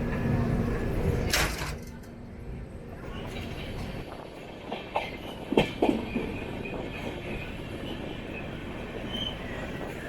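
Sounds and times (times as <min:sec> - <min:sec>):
train coach rumbling on rails: 0:00.0 - 0:10.0.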